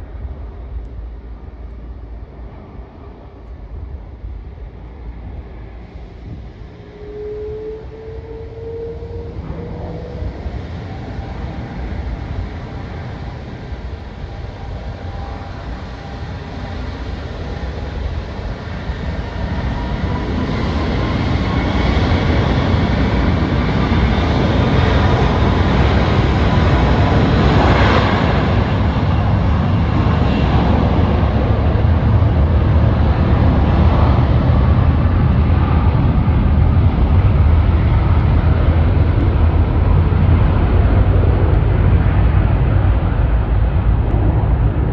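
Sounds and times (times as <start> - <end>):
faint engine whine: 0.0 - 44.9
jet engines rumbling: 0.0 - 44.9.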